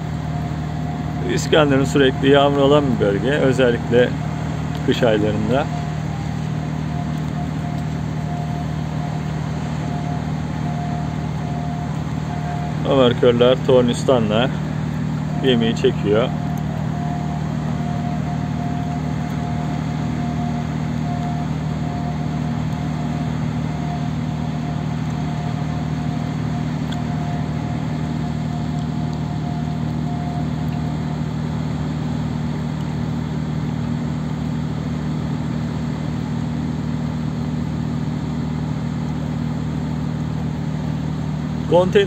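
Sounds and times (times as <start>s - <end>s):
diesel engines droning: 0.0s - 42.0s
thin high whine: 0.0s - 42.0s.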